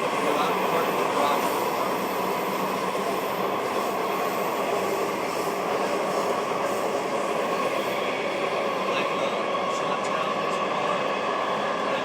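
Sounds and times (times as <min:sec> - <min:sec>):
subway car rumble and rail noise: 0:00.0 - 0:12.0.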